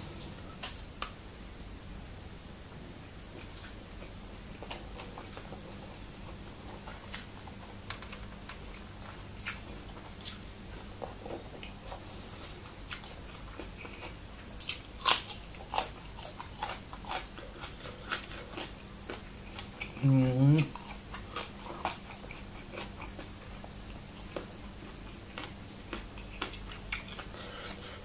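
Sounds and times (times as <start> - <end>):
person chewing crunchy vegetables: 3.3 - 28.0.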